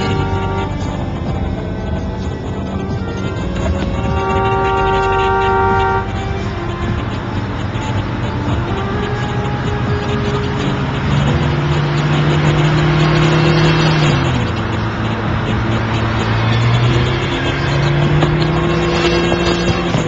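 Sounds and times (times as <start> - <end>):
car engine: 0.0 - 20.0
road noise inside car: 0.0 - 20.0.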